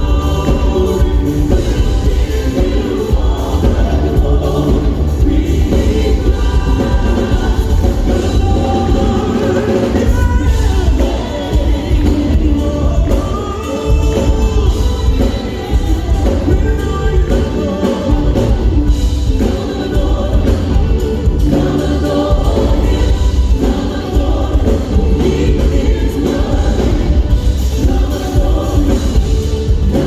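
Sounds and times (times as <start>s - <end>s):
backing band with heavy bass: 0.0s - 30.0s
gospel singing voices: 0.0s - 30.0s.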